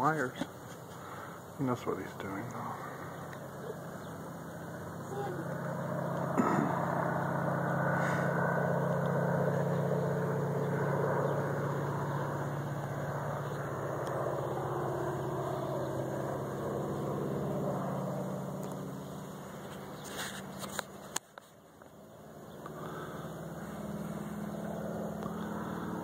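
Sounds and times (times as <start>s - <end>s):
airplane engine droning: 0.0s - 26.0s.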